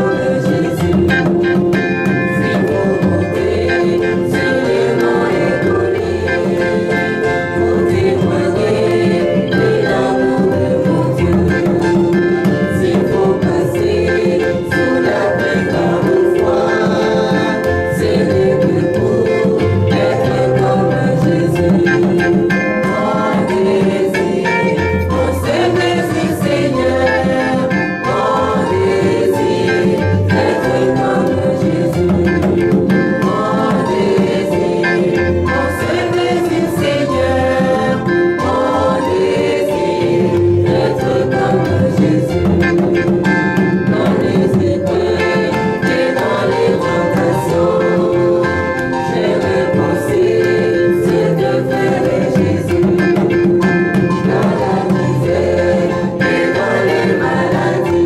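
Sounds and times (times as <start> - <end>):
choir singing a hymn: 0.0 - 58.0
instrumental accompaniment: 0.0 - 58.0.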